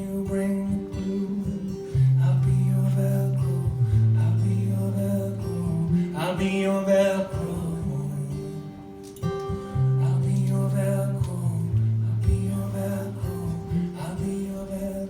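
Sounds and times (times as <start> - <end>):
strummed guitar chords: 0.0 - 15.0.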